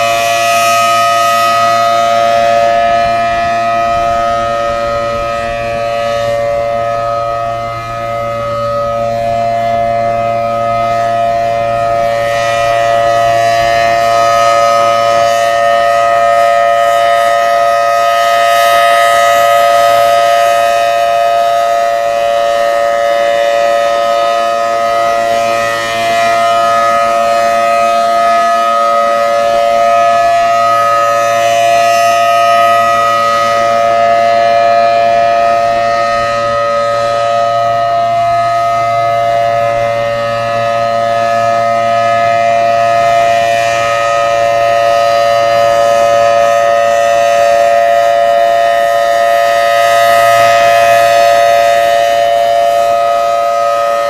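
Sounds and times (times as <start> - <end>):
outdoor warning siren steady chord: 0.0 - 54.0.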